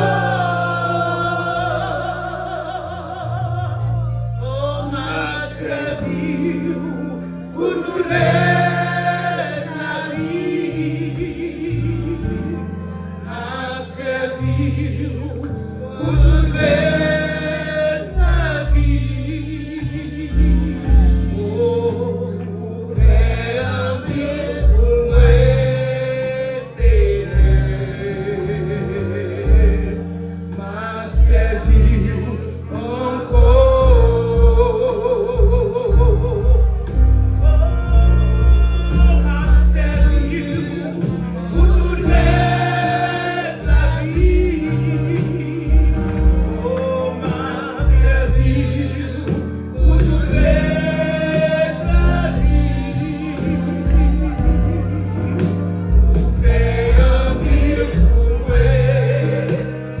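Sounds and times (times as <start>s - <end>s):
band with heavy pulsing bass: 0.0s - 60.0s
voices singing with vibrato: 0.0s - 60.0s.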